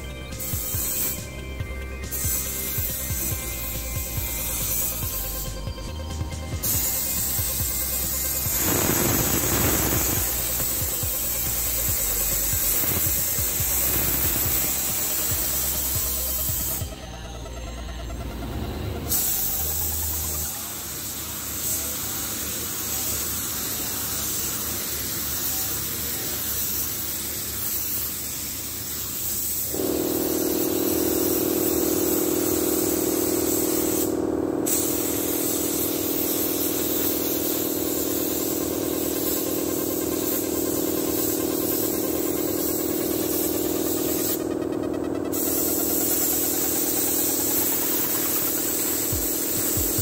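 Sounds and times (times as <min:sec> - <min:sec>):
paint spray gun hissing: 0:00.0 - 0:17.3, 0:19.1 - 0:50.0
steady hum of held tones: 0:00.0 - 0:21.0, 0:29.7 - 0:50.0.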